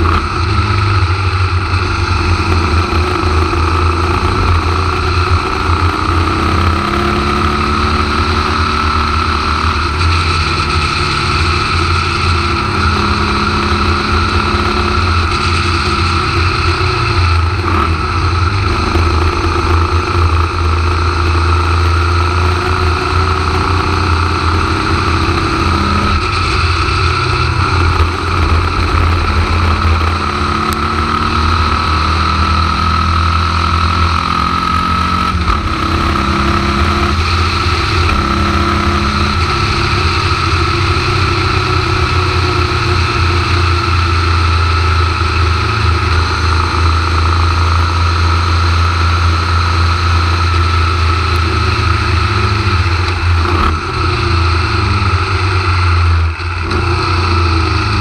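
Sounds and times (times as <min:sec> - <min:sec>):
racing car engine running hard: 0:00.0 - 0:58.0.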